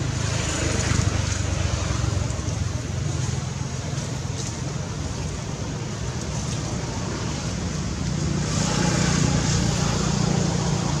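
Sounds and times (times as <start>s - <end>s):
motor vehicle running: 0.0s - 11.0s.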